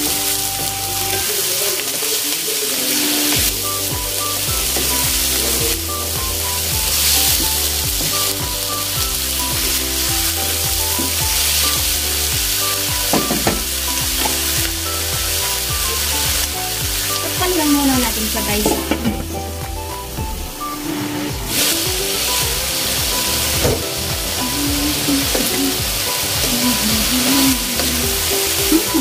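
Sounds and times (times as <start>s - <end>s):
background music with bass line: 0.0s - 1.3s, 3.4s - 29.0s
food sizzling in a pan: 0.0s - 29.0s.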